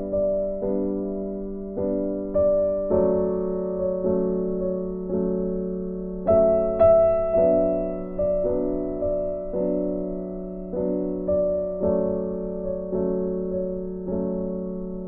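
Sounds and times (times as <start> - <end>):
piano chords ringing: 0.0 - 15.0.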